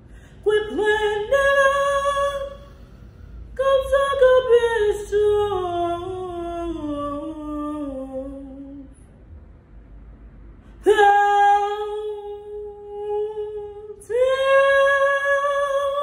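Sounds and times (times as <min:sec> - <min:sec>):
woman singing wordless notes: 0:00.4 - 0:02.8, 0:03.6 - 0:08.9, 0:10.8 - 0:16.0.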